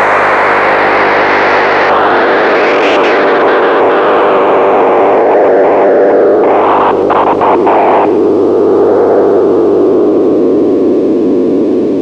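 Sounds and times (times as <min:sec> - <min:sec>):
noisy electronic buzz: 0:00.0 - 0:12.0.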